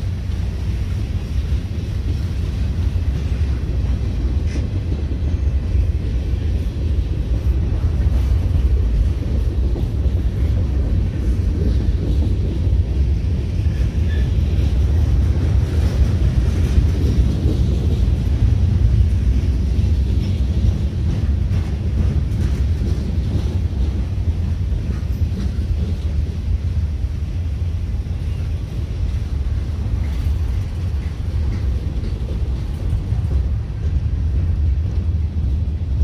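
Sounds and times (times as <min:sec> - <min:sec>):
freight train rumbling past: 0:00.0 - 0:36.0
wind buffeting microphone: 0:00.0 - 0:36.0.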